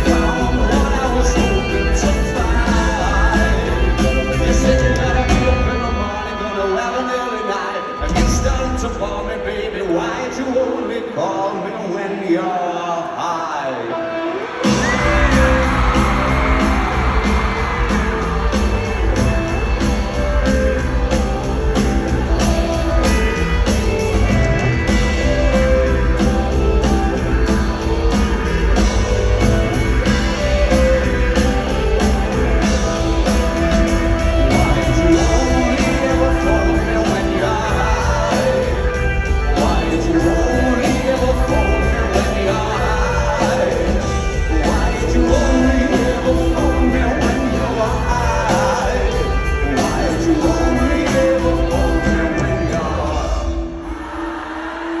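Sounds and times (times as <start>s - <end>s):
crowd shouting and whooping: 0.0s - 55.0s
rock band playing live: 0.0s - 55.0s.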